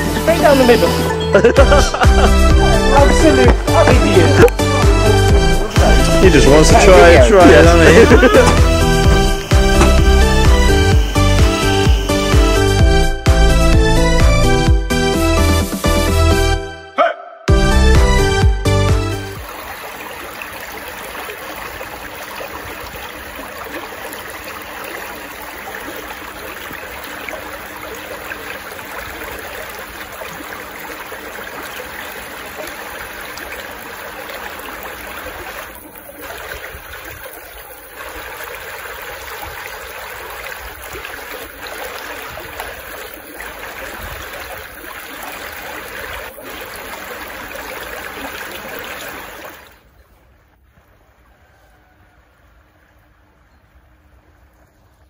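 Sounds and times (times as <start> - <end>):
stream water rushing over weir: 0.0 - 14.7, 19.1 - 49.9.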